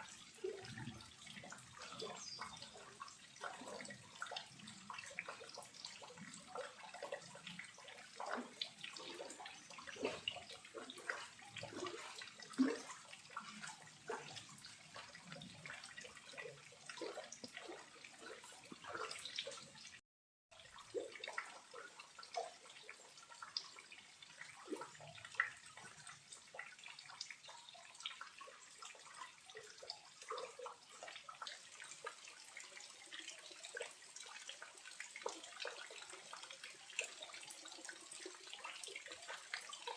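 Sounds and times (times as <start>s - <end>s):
small waterfall trickling and splashing: 0.0s - 39.9s.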